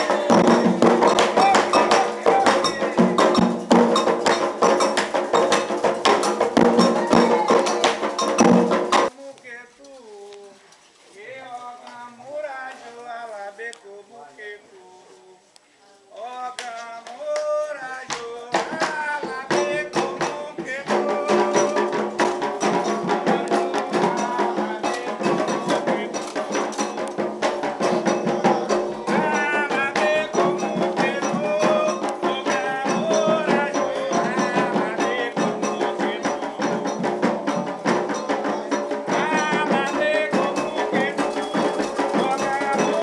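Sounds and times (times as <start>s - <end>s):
person singing chant: 0.0s - 3.6s, 6.6s - 8.2s, 11.2s - 27.0s, 27.7s - 43.0s
group of voices singing: 0.0s - 9.2s, 16.2s - 43.0s
hand percussion: 0.0s - 9.2s, 16.6s - 43.0s.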